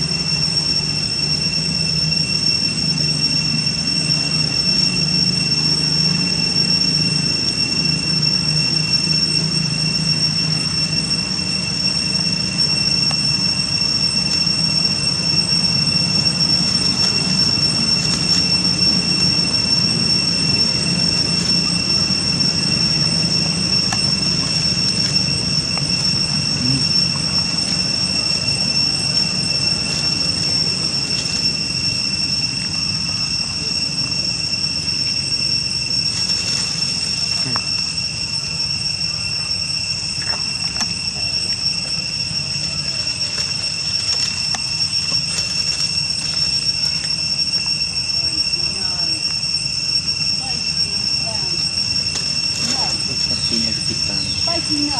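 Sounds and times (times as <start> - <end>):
high-pitched insect drone: 0.0 - 54.9.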